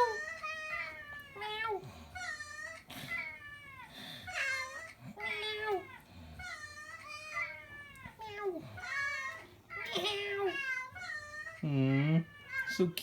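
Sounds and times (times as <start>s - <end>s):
cats meowing: 0.0s - 13.0s.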